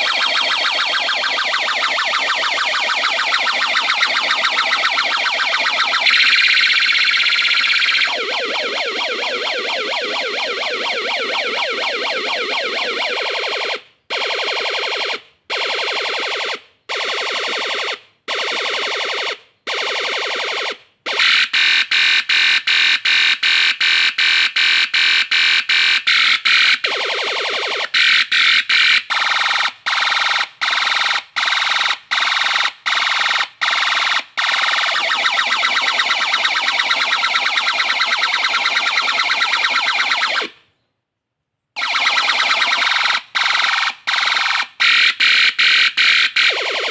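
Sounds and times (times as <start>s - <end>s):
electronic siren alarm tones: 0.0s - 40.6s, 41.8s - 46.9s.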